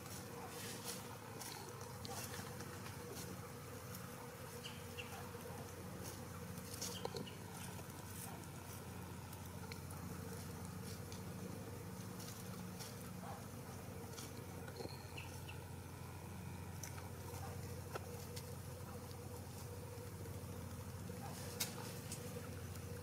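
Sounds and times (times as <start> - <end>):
ticks and rustles in dry leaves: 0.0 - 23.0.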